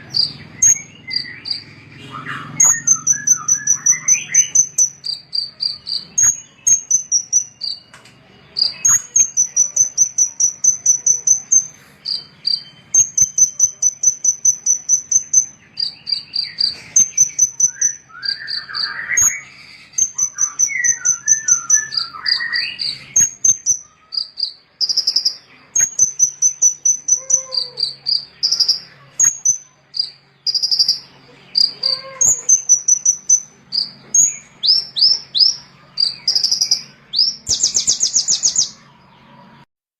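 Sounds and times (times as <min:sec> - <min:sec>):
songbird trilling: 0:00.0 - 0:39.2
lower bird chirps: 0:00.0 - 0:39.7.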